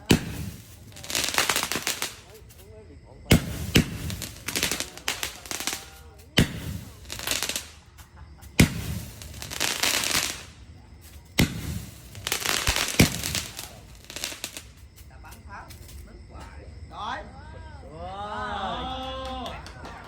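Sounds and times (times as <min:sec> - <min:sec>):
fireworks bangs: 0:00.0 - 0:16.7
fireworks crackling: 0:00.0 - 0:17.8, 0:18.7 - 0:20.0.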